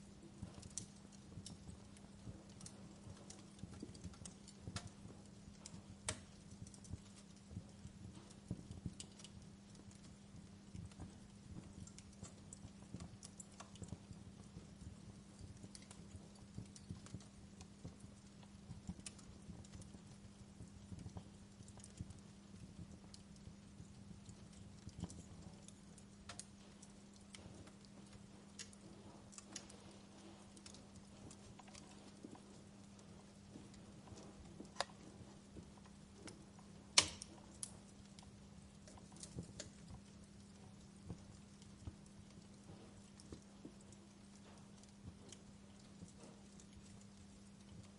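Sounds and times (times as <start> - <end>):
low steady hum: 0.0 - 47.9
wood fire crackling: 0.0 - 47.9.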